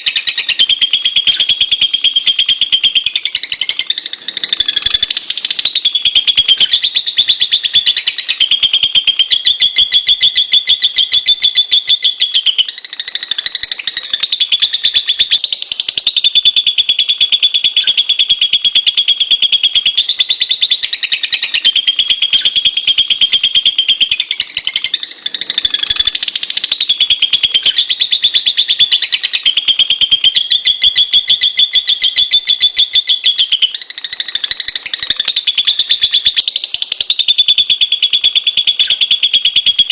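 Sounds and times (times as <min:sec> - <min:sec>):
lovebird shrill trilling: 0:00.0 - 0:39.9.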